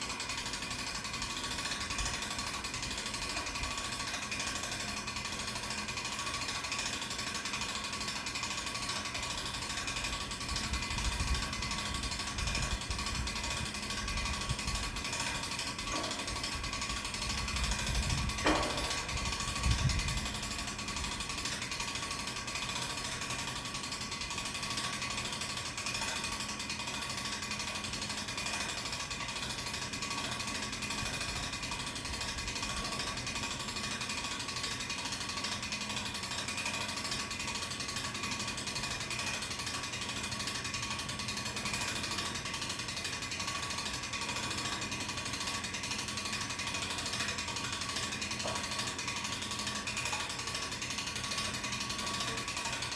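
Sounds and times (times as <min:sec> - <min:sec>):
winch ratchet clicking: 0:00.0 - 0:52.9.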